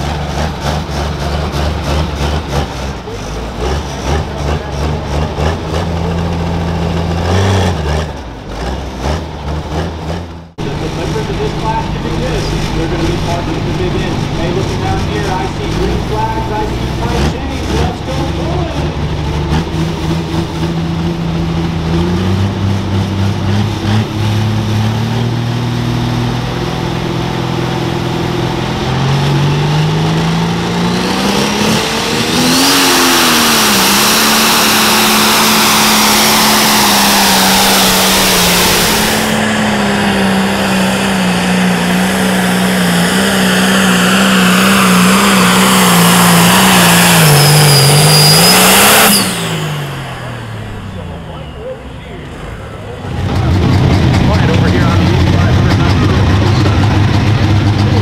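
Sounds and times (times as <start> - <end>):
diesel tractor engine revving: 0.0 - 58.0.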